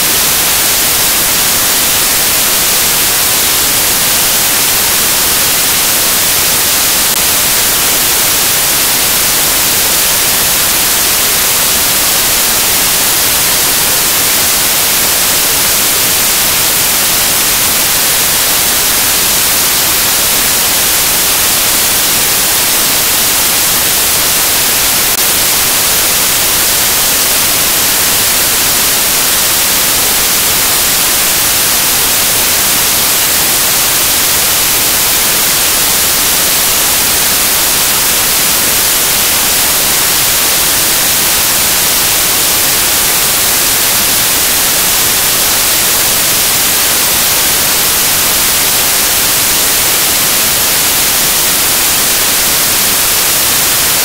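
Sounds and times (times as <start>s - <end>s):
loud static hiss: 0.0s - 54.0s.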